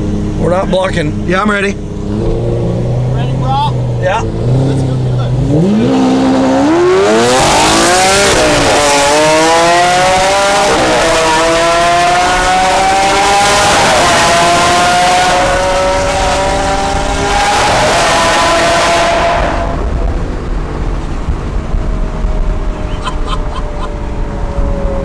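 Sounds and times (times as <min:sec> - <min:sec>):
sports car engine howling: 0:00.0 - 0:25.0.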